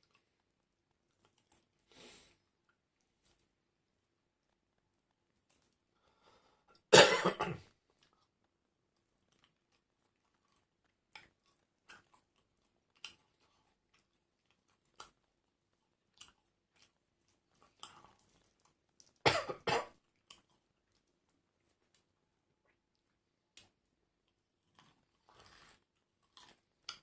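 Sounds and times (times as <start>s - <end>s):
faint chewing clicks: 0.0s - 6.9s, 7.6s - 19.2s, 19.9s - 27.0s.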